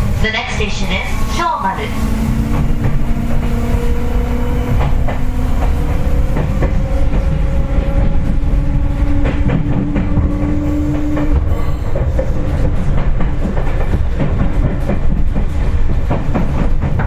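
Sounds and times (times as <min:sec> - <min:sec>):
electric train motor hum: 0:00.0 - 0:15.8
train wheels clicking over rail joints: 0:00.0 - 0:17.0.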